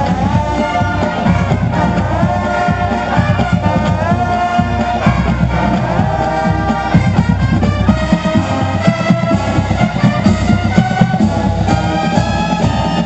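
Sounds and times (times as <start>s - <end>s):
drum beat: 0.0s - 13.0s
marching band playing: 0.0s - 13.0s.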